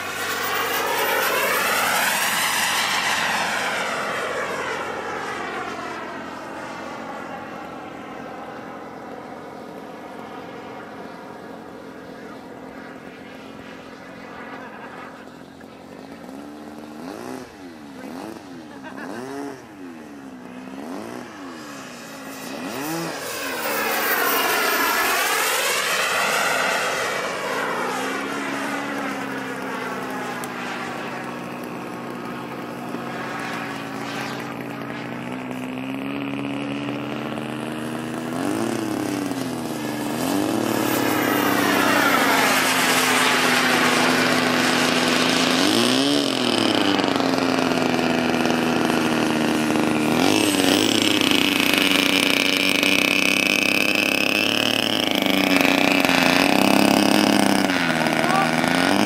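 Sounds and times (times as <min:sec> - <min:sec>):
higher whine: 0:00.0 - 0:19.0, 0:19.6 - 0:59.0
model jet engine whine: 0:00.0 - 0:59.0.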